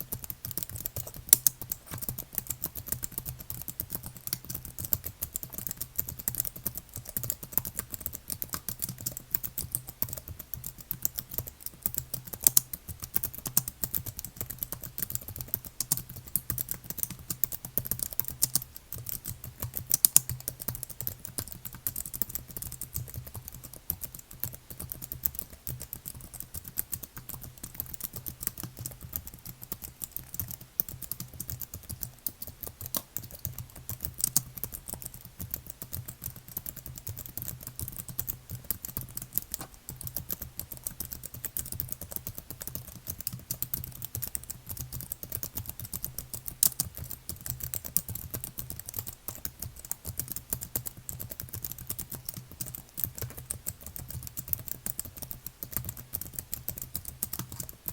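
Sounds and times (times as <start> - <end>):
fast typing on keyboard: 0.0 - 57.9.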